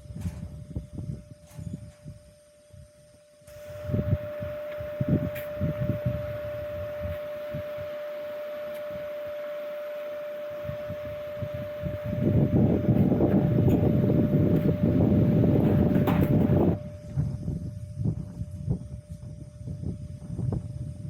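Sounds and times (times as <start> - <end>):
wind gusting on microphone: 0.0 - 9.5, 10.4 - 21.0
steady hiss: 0.0 - 21.0
steady mid-pitched hum: 0.0 - 21.0.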